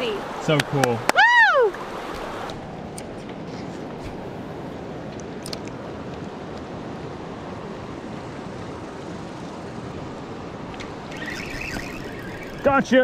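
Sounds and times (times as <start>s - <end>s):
river water rushing over spillway: 0.0s - 13.0s.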